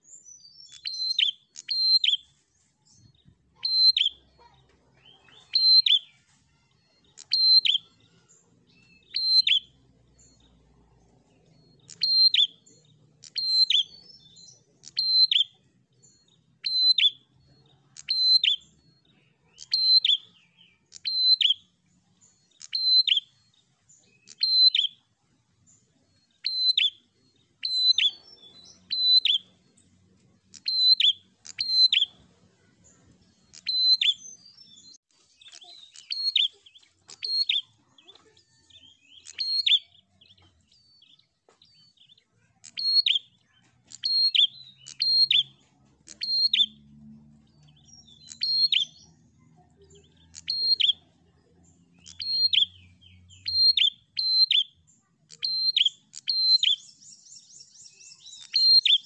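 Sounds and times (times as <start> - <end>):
songbird calling: 0.0 - 59.0.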